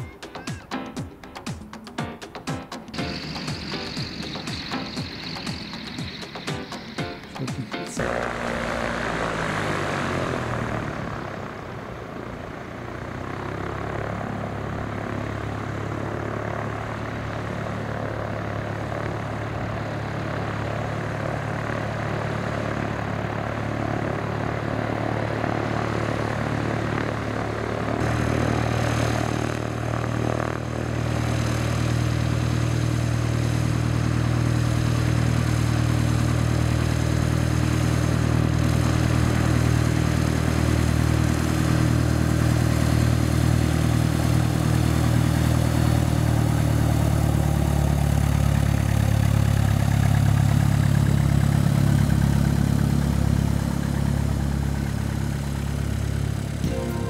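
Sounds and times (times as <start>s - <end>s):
propeller plane engine droning: 1.2s - 57.0s.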